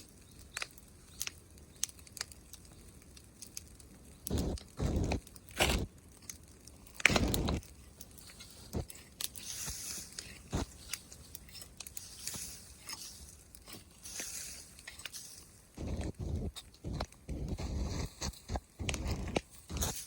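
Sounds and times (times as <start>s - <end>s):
bonfire crackling: 0.0s - 20.0s
crunching rustle: 0.0s - 20.0s
sharp pops: 3.4s - 15.2s, 15.8s - 20.0s.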